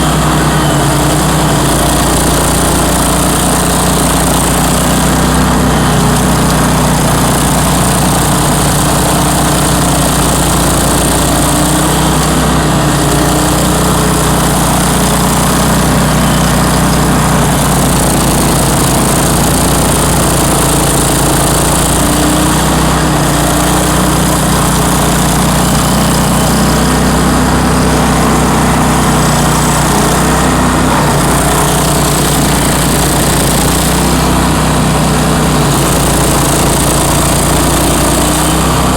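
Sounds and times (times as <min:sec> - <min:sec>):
stump grinder engine running: 0:00.0 - 0:38.9.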